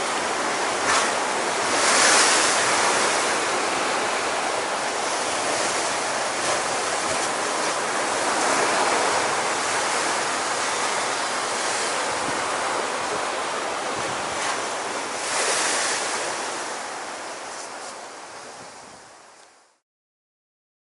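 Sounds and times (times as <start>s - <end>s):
waves breaking and washing in: 0.0s - 19.8s.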